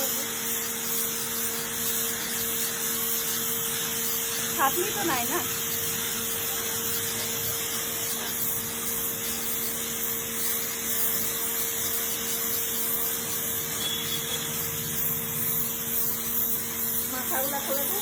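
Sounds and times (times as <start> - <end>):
pressure washer motor humming: 0.0 - 18.0
water jet hissing: 0.0 - 18.0.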